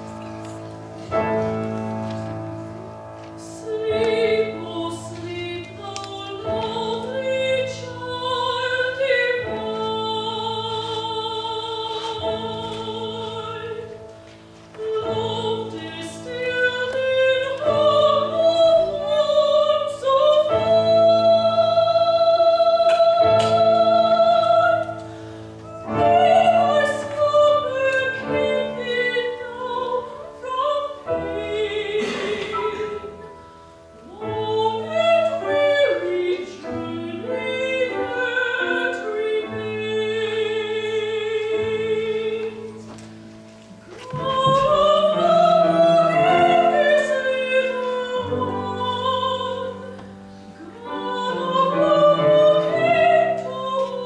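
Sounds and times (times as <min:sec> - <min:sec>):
piano accompaniment: 0:00.0 - 0:54.0
person singing with vibrato: 0:03.4 - 0:42.8, 0:43.8 - 0:54.0.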